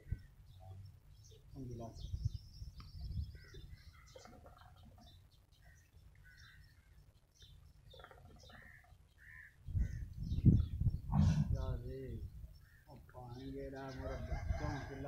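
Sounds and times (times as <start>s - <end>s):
birds chirping and cawing: 0.0s - 15.0s.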